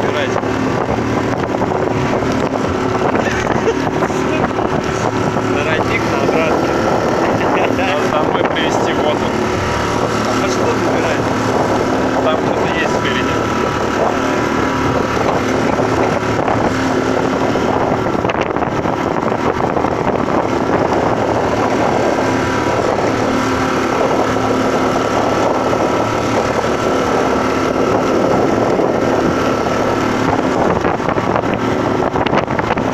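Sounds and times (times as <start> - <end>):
motorboat motor running: 0.0 - 32.9
wind on microphone: 0.0 - 32.9.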